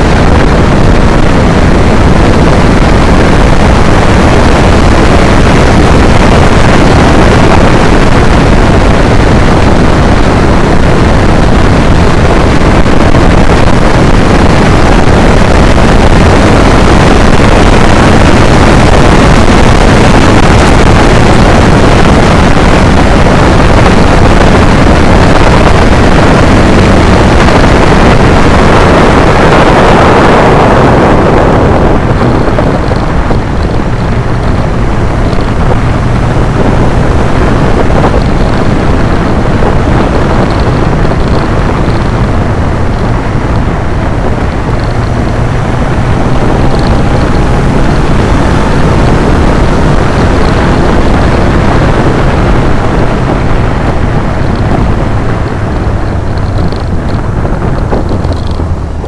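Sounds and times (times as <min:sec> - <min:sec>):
motorcycle engine: 0:00.0 - 0:59.0
wind rush on microphone: 0:00.0 - 0:59.0.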